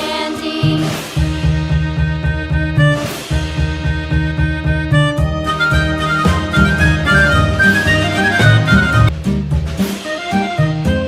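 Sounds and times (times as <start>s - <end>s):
bouncy background music: 0.0s - 11.0s.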